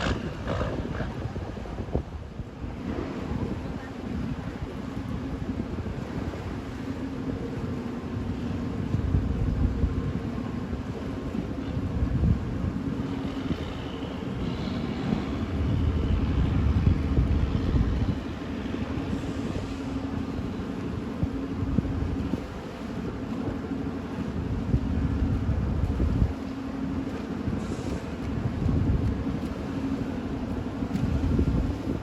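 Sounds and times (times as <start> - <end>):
wind gusting on microphone: 0.0 - 7.6, 8.7 - 32.0
boat diesel engine humming: 0.0 - 32.0.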